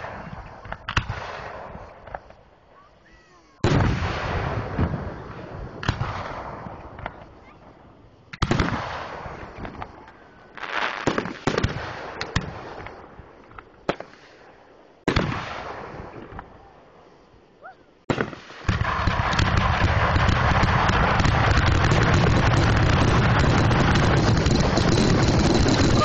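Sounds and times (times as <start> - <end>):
fireworks booming and crackling: 0.0 - 16.8, 18.0 - 26.0.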